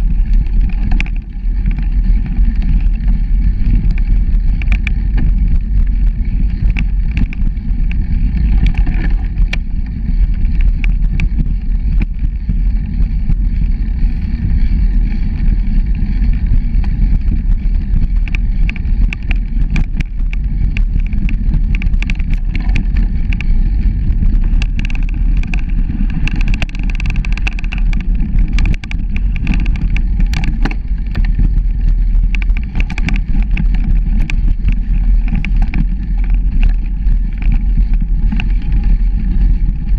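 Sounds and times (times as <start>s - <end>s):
bicycle rattling over bumps: 0.0s - 39.9s
bicycle tyres on dirt: 0.0s - 39.9s
wind on microphone: 0.0s - 39.9s.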